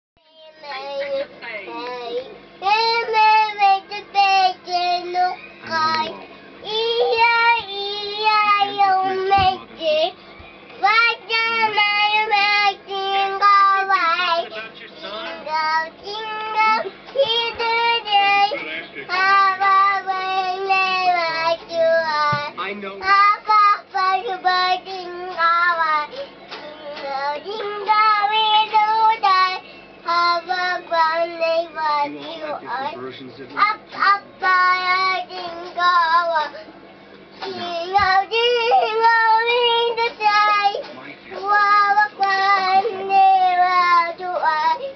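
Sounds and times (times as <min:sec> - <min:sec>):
child singing: 0:00.2 - 0:10.2, 0:10.8 - 0:14.6, 0:15.2 - 0:36.6, 0:37.4 - 0:44.9.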